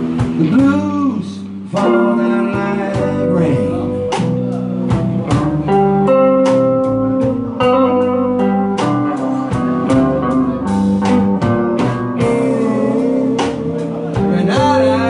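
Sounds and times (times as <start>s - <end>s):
guitar with sustained notes: 0.0s - 15.0s
steady drum beat: 0.0s - 15.0s.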